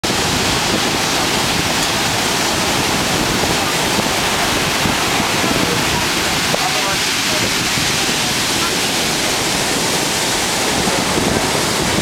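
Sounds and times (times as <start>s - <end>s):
ocean surf breaking on beach: 0.0s - 12.0s.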